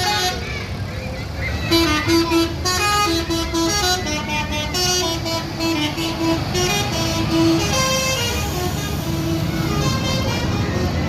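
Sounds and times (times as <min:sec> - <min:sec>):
musical bus horn tune: 0:00.0 - 0:00.5, 0:01.7 - 0:11.0
bus engine rumble: 0:00.0 - 0:11.0.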